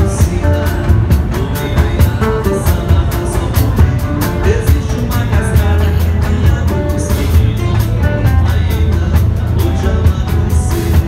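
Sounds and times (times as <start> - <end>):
background music with drums and bass: 0.0 - 11.0.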